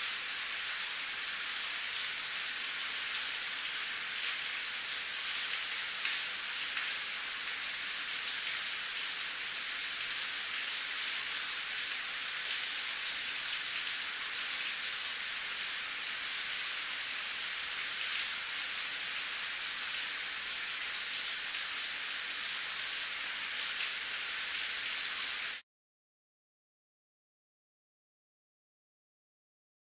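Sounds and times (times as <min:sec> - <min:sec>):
steady rain hiss: 0:00.0 - 0:25.6.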